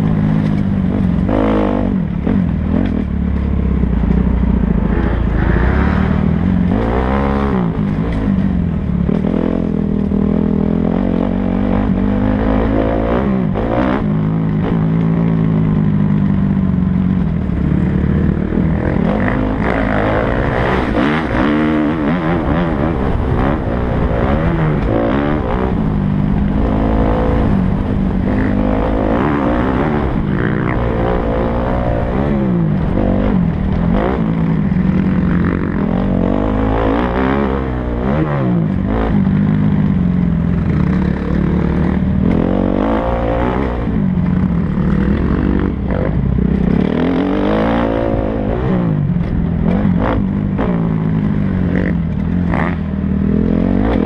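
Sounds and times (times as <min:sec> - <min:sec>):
motocross engine revving: 0:00.0 - 0:54.0.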